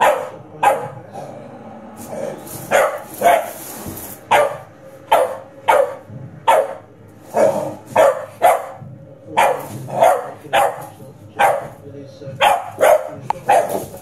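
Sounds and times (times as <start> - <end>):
dog barking: 0.0 - 1.0, 2.6 - 3.6, 4.3 - 11.8, 12.4 - 14.0.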